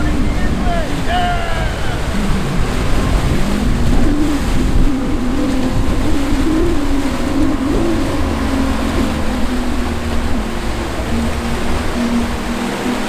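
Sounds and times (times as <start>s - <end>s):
churning water rushing: 0.0s - 13.0s
outboard motor running hard: 0.0s - 13.0s.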